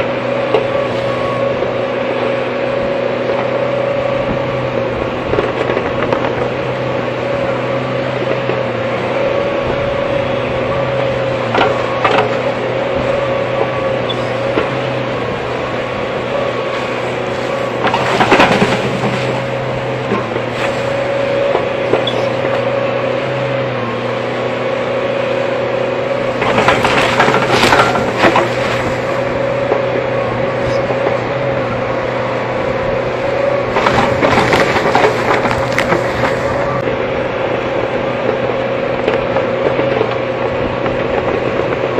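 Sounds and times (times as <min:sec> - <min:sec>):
excavator clattering: 0:00.0 - 0:41.9
excavator engine droning: 0:00.0 - 0:41.9.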